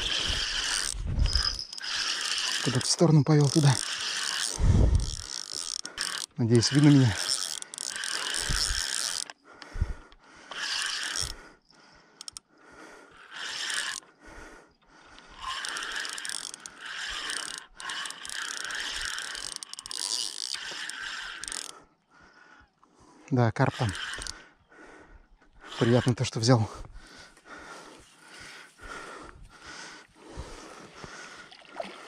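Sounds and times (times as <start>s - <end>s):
fishing reel cranking: 0.0s - 22.7s, 23.3s - 26.8s.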